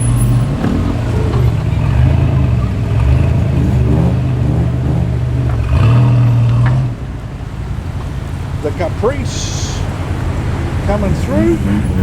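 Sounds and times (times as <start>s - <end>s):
car engine rumbling: 0.0s - 12.0s
car rolling past: 0.0s - 12.0s.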